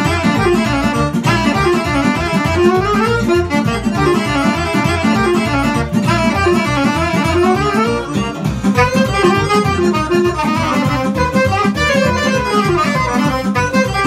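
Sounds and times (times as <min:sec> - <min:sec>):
fast folk dance tune: 0:00.0 - 0:14.0.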